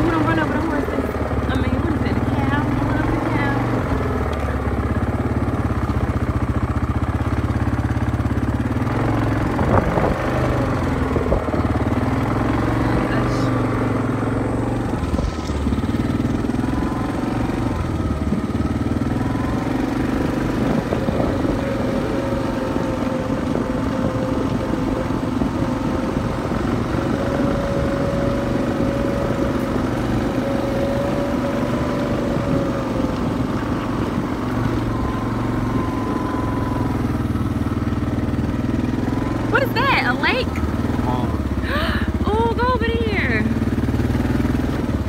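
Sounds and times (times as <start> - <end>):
atv engine running: 0.0 - 45.0
rumble and jostling from riding: 0.0 - 45.0.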